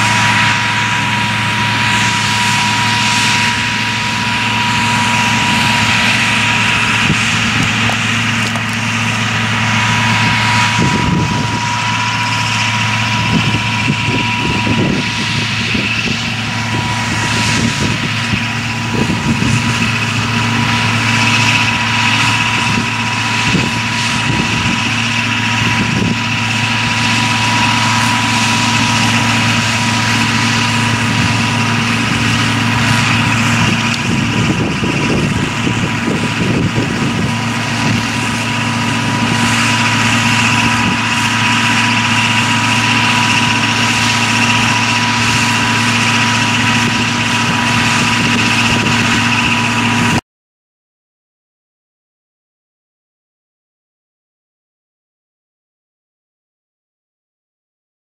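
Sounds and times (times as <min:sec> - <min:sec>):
sprayer fans blowing: 0:00.0 - 0:50.2
steady high tone: 0:00.0 - 0:50.2
tractor engine running under load: 0:00.0 - 0:50.2.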